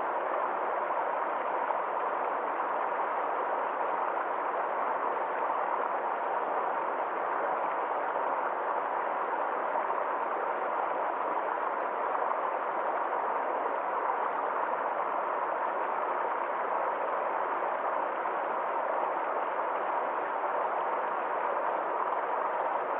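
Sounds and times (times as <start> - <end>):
forest stream flowing: 0.0 - 22.9.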